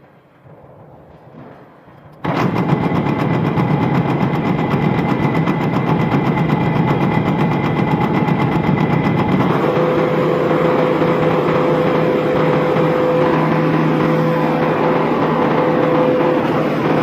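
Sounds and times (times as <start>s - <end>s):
engine running: 2.2s - 17.0s.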